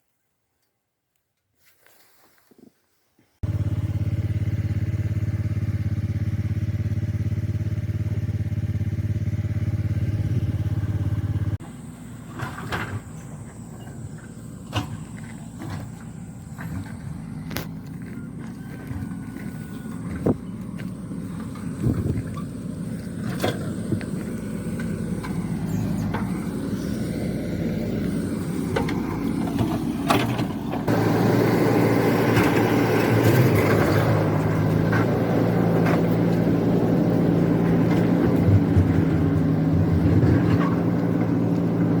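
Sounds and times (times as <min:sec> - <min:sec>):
outdoor noise: 0:00.0 - 0:42.0
motor engine running: 0:03.4 - 0:42.0.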